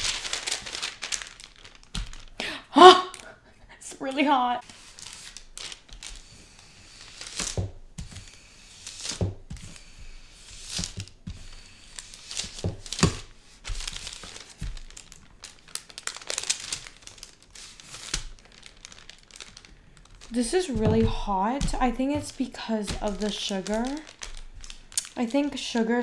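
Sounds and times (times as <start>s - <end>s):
baking paper crinkling: 0.0s - 26.0s.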